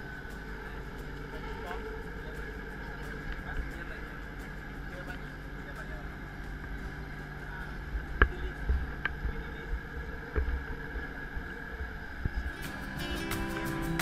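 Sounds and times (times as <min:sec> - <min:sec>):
train car hum and rumble: 0:00.0 - 0:14.0.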